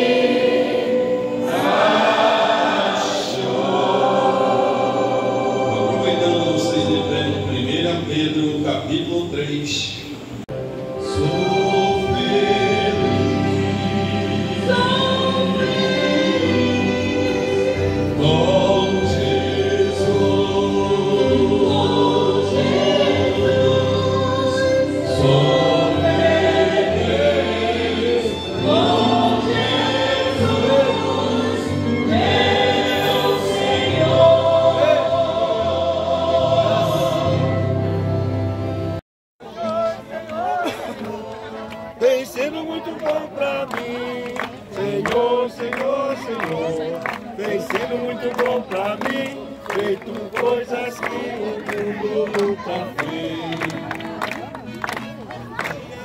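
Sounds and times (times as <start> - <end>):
choir singing gospel music: 0.0 - 9.2, 10.6 - 39.0, 40.7 - 55.0.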